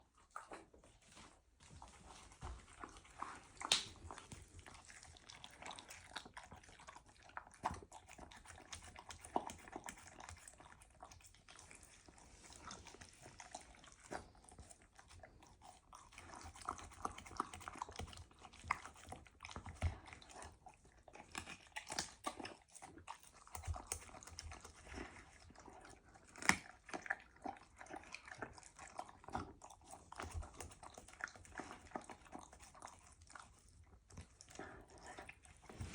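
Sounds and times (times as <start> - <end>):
puma chewing and crunching: 0.0 - 35.9.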